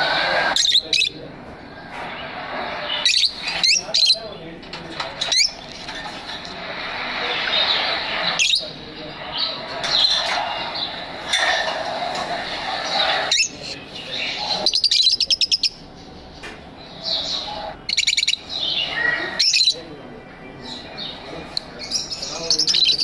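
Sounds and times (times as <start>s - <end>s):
lovebirds chirping and chattering: 0.0s - 23.0s.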